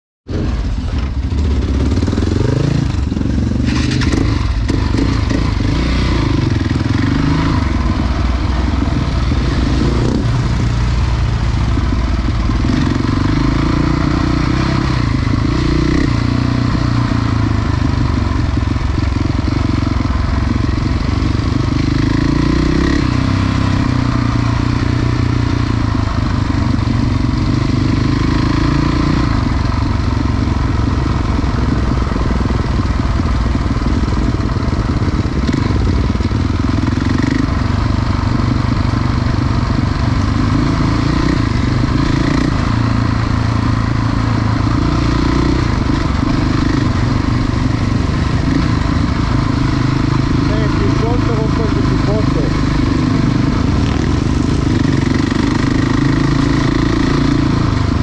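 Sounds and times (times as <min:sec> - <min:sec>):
motorcycle engine running: 0:00.2 - 0:58.0.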